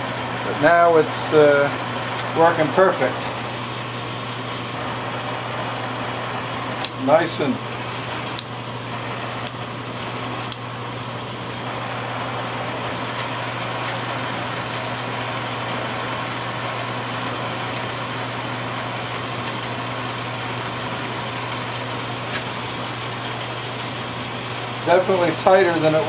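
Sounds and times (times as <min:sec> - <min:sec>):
metal lathe running: 0:00.0 - 0:26.0.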